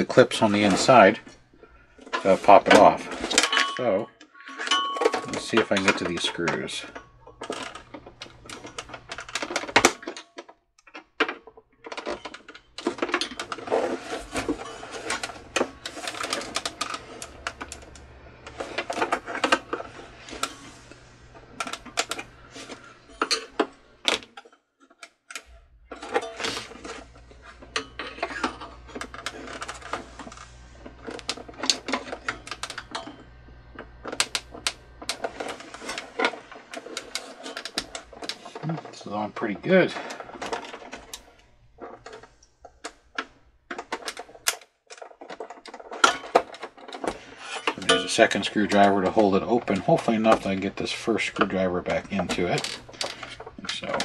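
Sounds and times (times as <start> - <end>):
plastic housing clicking and scraping: 0.0 - 54.0.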